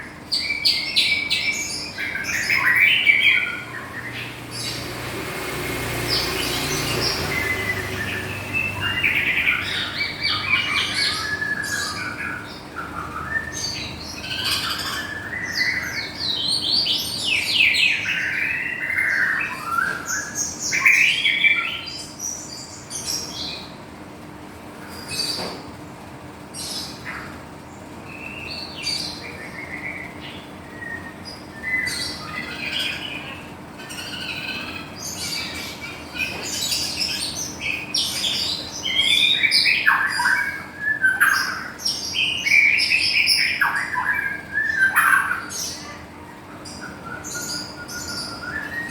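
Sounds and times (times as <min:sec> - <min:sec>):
bird singing varied song: 0:00.0 - 0:23.9, 0:24.9 - 0:48.9.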